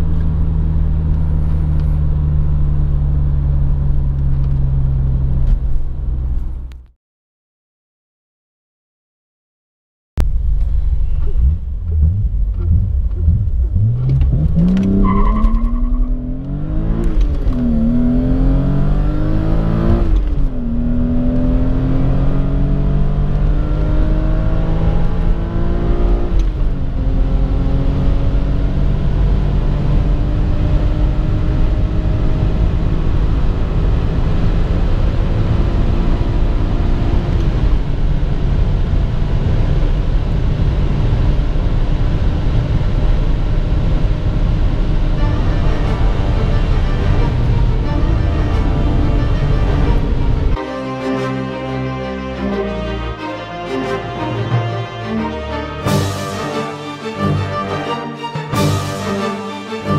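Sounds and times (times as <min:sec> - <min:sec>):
car engine accelerating: 0:00.0 - 0:06.9, 0:10.2 - 0:59.9
road and wind noise: 0:00.0 - 0:06.9, 0:10.2 - 0:56.1.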